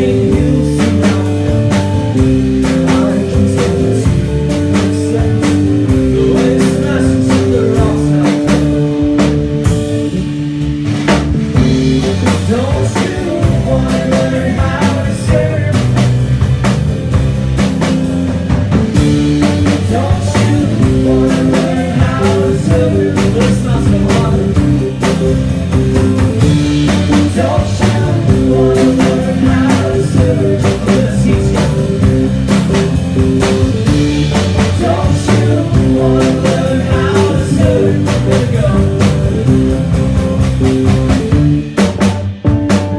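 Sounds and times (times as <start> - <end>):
bass guitar: 0.0 - 42.9
drum kit beat: 0.0 - 42.9.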